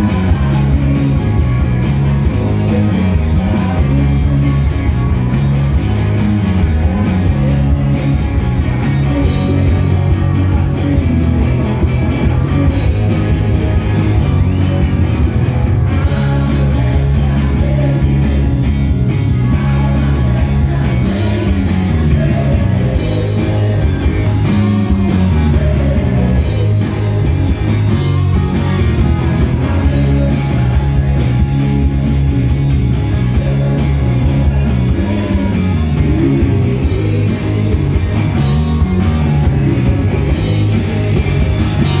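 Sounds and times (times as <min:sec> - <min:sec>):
man singing lead vocal: 0:00.0 - 0:15.0, 0:15.9 - 0:31.8, 0:33.1 - 0:42.0
bass guitar: 0:00.0 - 0:42.0
drum kit: 0:00.0 - 0:42.0
electric guitars: 0:00.0 - 0:42.0.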